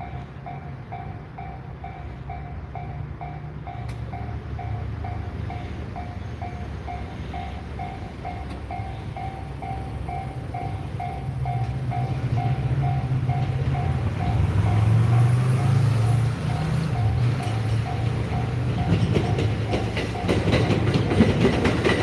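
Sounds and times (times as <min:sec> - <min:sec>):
level-crossing warning bell: 0:00.0 - 0:22.0
train rumble: 0:00.0 - 0:22.0.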